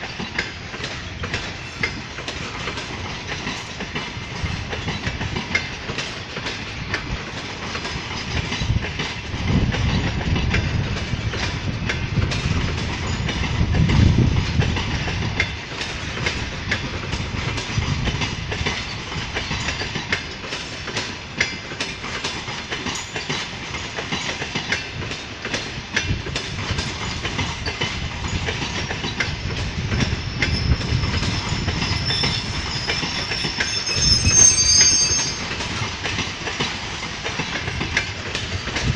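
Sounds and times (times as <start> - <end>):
train rumbling on rails: 0.0 - 38.9
wheel clicks over rail joints: 0.0 - 38.9.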